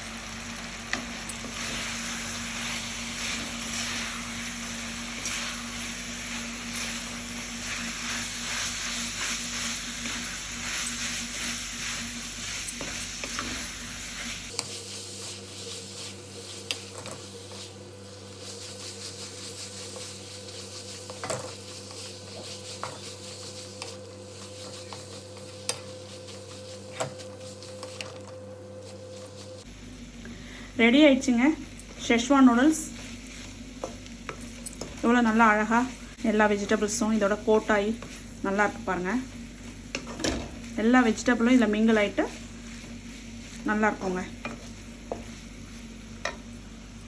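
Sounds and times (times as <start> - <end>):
noodles sizzling in a hot pan: 0.0 - 47.0
stirring in a pan: 0.2 - 28.2, 31.6 - 47.0.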